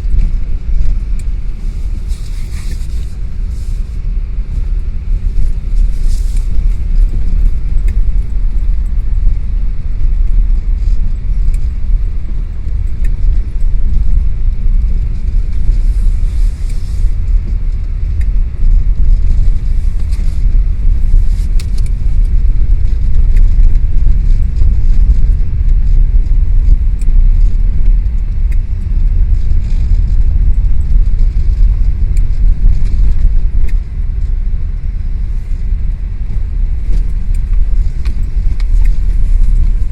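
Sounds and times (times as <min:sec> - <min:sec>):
loud low rumble: 0:00.0 - 0:39.9.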